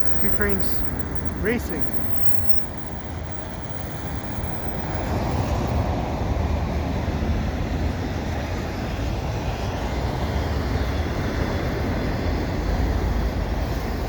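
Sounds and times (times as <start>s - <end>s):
freight train wheels rumbling on rails: 0.0s - 14.0s.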